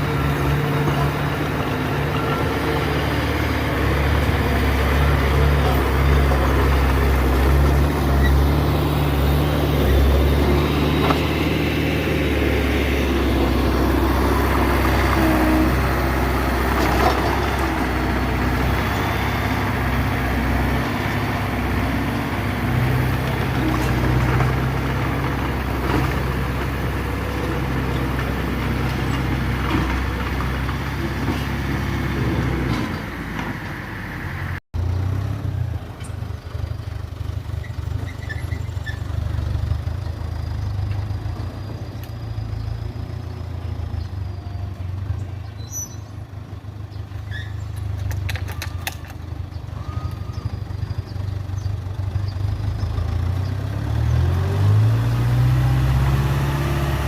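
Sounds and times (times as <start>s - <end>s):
diesel machinery droning: 0.0s - 57.0s.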